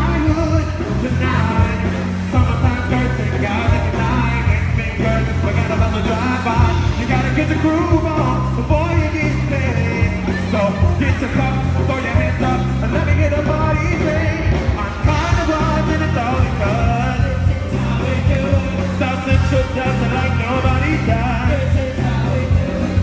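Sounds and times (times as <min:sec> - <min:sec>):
live band playing dance song: 0:00.0 - 0:23.0
person singing: 0:00.0 - 0:23.0.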